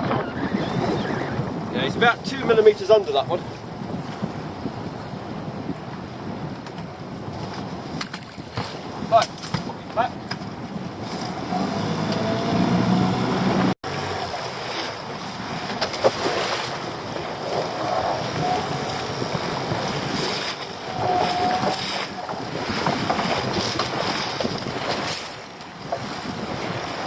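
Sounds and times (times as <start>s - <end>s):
water lapping against boat: 0.0s - 27.0s
wind buffeting microphone: 0.0s - 27.0s.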